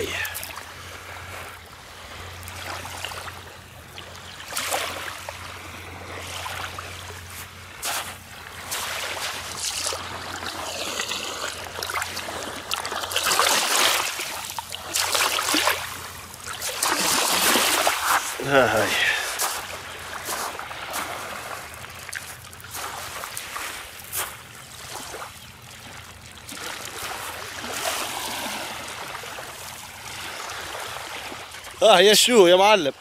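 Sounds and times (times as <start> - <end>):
water lapping over pebbles: 0.0 - 33.0.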